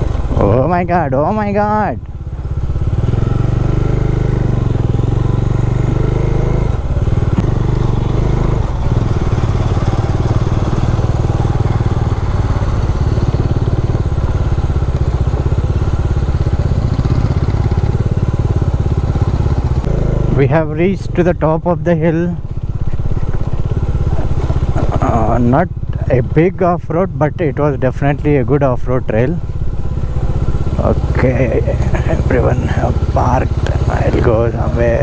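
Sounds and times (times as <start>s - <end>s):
motorcycle engine under load: 0.0s - 35.0s.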